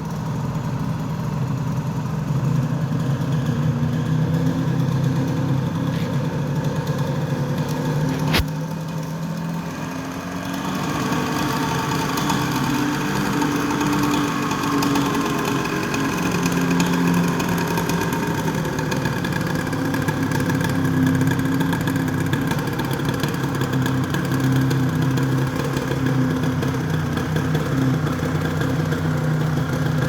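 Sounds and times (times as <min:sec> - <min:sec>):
two-stroke motorcycle engine idling: 0:00.0 - 0:30.0.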